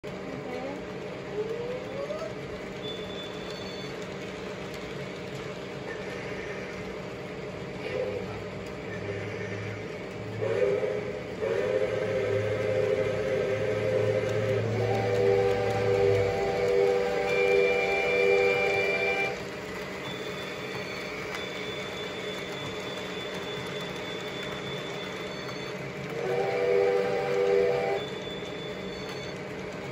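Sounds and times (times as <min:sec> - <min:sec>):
toy train motors whirring: 0:00.2 - 0:29.9.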